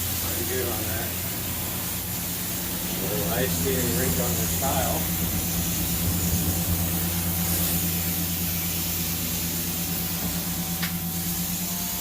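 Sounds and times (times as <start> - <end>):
carpet cleaning machine hum: 0.0 - 12.0
hiss of suction and spray: 0.0 - 12.0.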